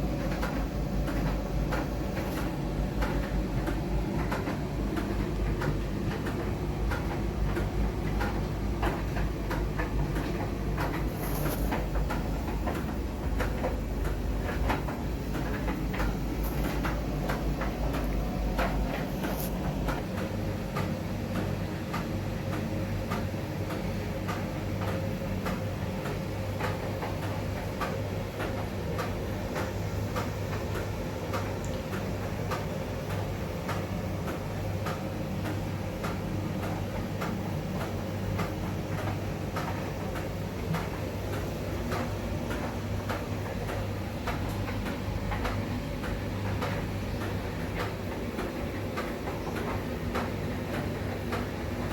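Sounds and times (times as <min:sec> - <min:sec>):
washing machine motor hum: 0:00.0 - 0:51.9.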